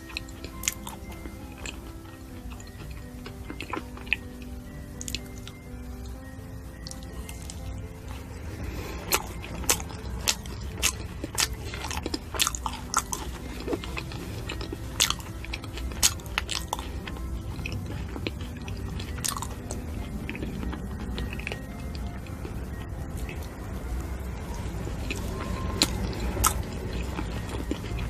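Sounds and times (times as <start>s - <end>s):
chewing crisp fruit: 0.0s - 6.2s, 6.8s - 28.0s.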